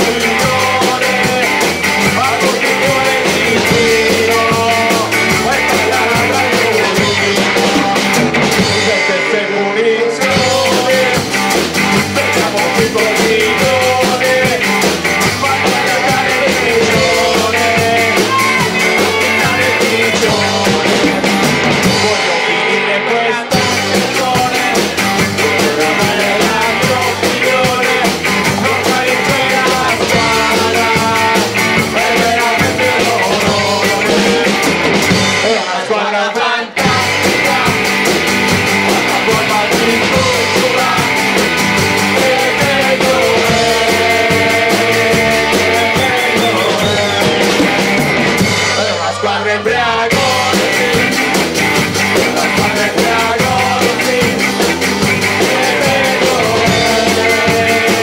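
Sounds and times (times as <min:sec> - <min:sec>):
drums and cymbals: 0:00.0 - 0:09.4, 0:10.2 - 0:22.8, 0:23.4 - 0:58.0
live rock band playing: 0:00.0 - 0:58.0
person singing: 0:00.0 - 0:58.0.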